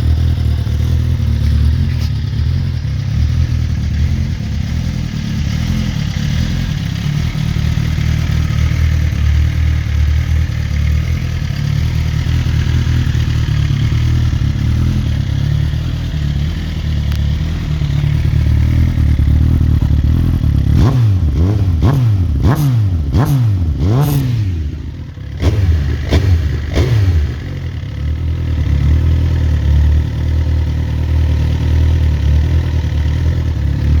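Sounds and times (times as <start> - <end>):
motorcycle engine idling: 0.0 - 34.0
motorcycle throttle blips: 0.0 - 34.0.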